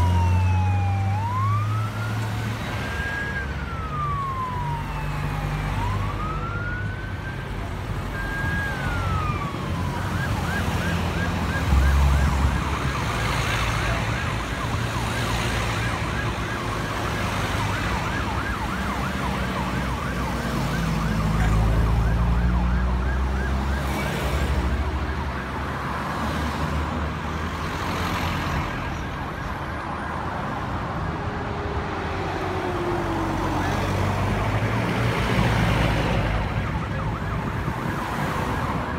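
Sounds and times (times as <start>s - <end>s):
fast yelping siren: 0.0s - 25.7s, 30.9s - 34.8s, 36.4s - 38.9s
passing car engines: 0.0s - 38.9s
wailing siren: 0.0s - 38.9s.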